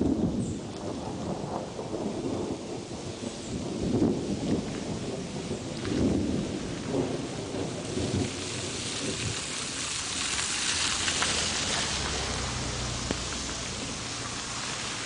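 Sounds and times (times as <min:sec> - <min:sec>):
steady rain hiss: 0:00.0 - 0:15.0
thunder rumble: 0:00.0 - 0:15.0.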